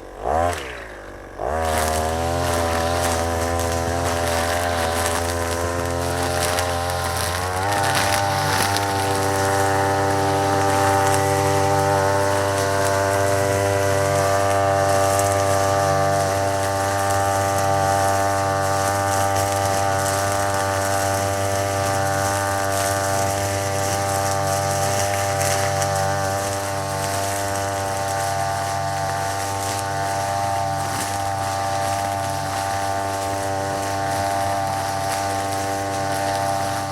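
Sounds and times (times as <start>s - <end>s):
brush cutter at high revs: 0.0s - 36.9s.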